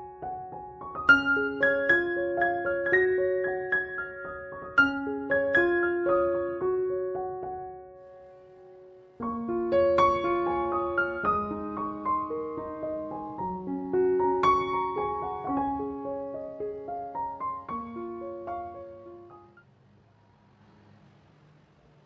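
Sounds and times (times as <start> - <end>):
piano music: 0.0 - 19.7.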